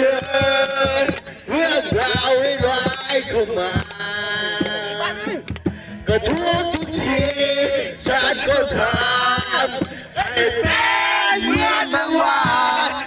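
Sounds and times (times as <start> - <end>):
man singing song: 0.0 - 13.0.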